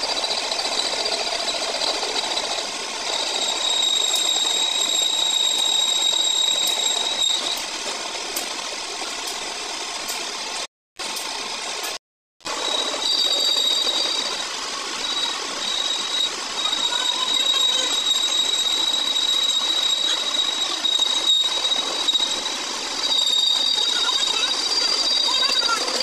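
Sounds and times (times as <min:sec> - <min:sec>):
metal lathe cutting steel: 0:00.0 - 0:26.0.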